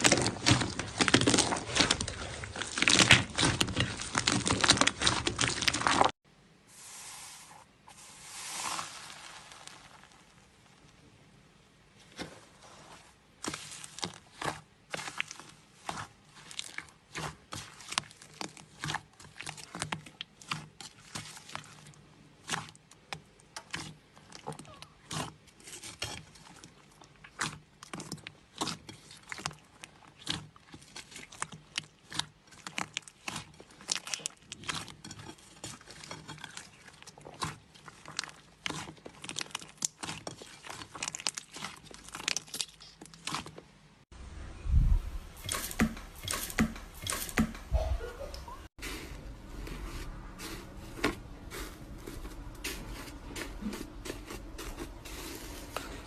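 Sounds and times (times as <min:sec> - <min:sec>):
slime squelching by hand: 0:00.0 - 0:06.2, 0:06.8 - 0:11.0, 0:12.0 - 0:43.9, 0:45.2 - 0:56.0.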